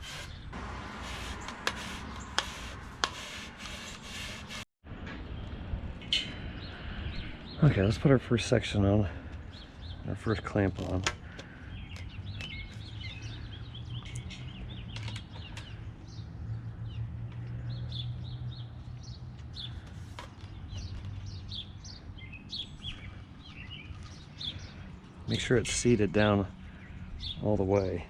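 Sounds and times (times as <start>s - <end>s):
small birds chirping: 5.2s - 28.0s.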